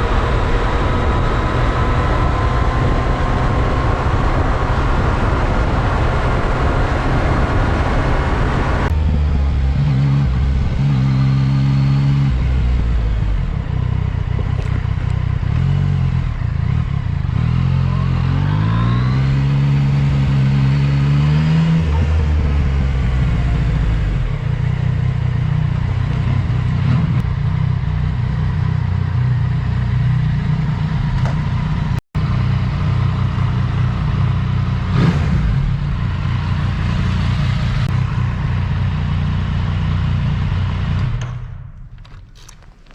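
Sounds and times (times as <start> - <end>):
motorcycle engine accelerating: 0.0 - 42.9
wind and road rush: 0.0 - 42.9.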